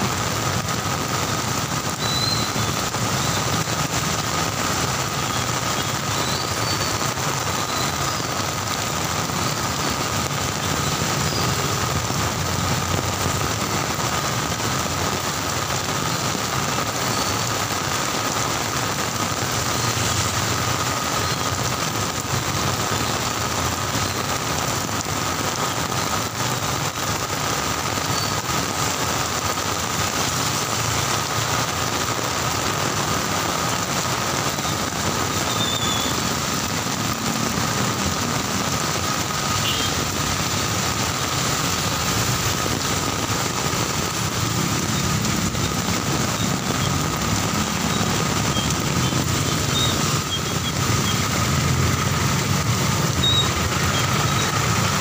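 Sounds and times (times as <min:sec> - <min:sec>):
heavy rain on wet road: 0:00.0 - 0:55.0
slow traffic rumble: 0:00.0 - 0:55.0.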